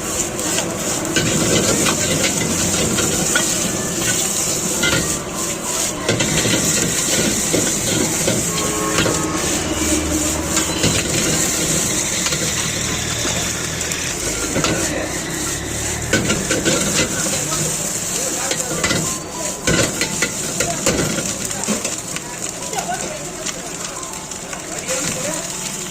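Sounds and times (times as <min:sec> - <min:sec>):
metal ladle scraping a pan: 0:00.0 - 0:22.0
food sizzling in a wok: 0:00.0 - 0:25.9.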